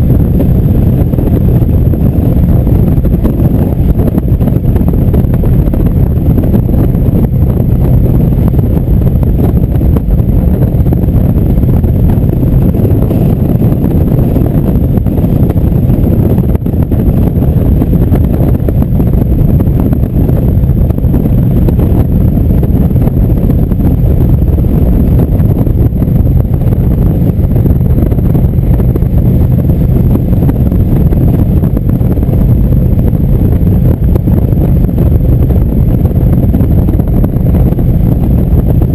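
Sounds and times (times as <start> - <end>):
motorcycle engine rumble: 0.0 - 38.9
wind rushing over microphone: 0.0 - 38.9.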